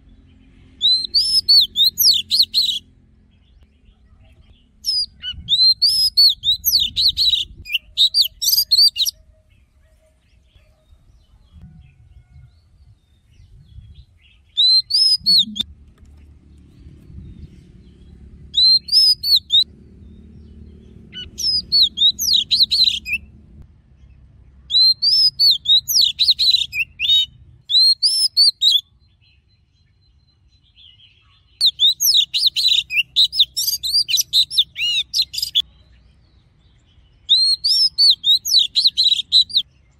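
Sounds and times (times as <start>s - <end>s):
bird singing whistled notes: 0.7s - 2.8s, 3.6s - 15.7s, 17.0s - 23.3s, 24.7s - 35.7s, 36.3s - 39.9s.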